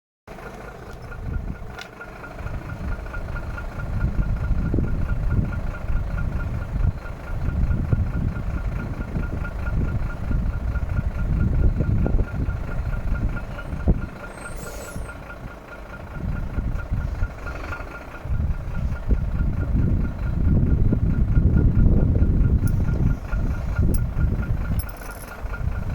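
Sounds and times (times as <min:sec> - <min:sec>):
truck diesel engine rumbling: 0:00.3 - 0:25.9.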